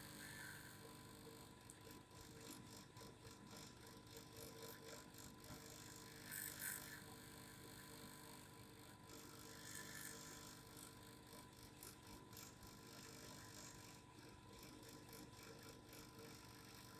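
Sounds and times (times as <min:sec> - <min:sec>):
small device vibrating hum: 0:00.0 - 0:16.9.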